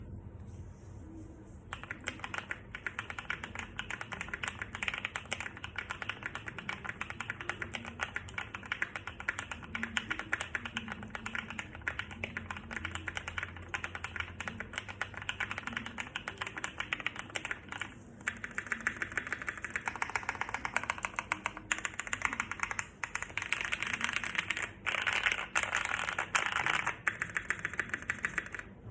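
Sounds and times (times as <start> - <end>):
typing on mechanical keyboard: 1.7 - 28.7.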